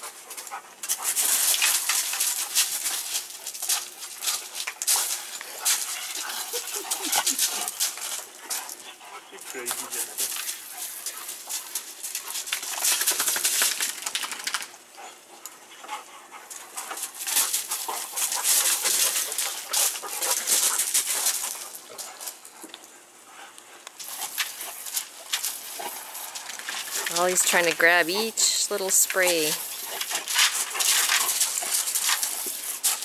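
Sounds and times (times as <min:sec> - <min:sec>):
dog scrabbling on wet gravel: 0:00.0 - 0:15.1, 0:16.3 - 0:22.5, 0:23.4 - 0:27.4, 0:29.3 - 0:33.0
sprinkler spraying on gravel: 0:00.8 - 0:08.8, 0:09.4 - 0:14.7, 0:16.5 - 0:22.4, 0:24.0 - 0:33.0.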